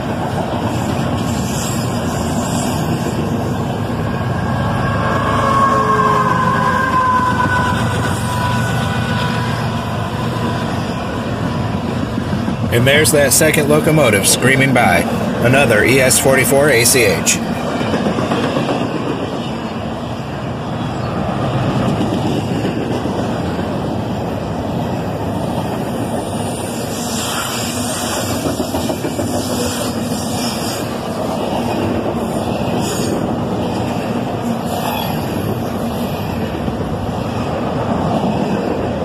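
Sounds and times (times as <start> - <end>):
freight train rolling past: 0.0 - 39.0
wheels clacking on rails: 0.0 - 39.0.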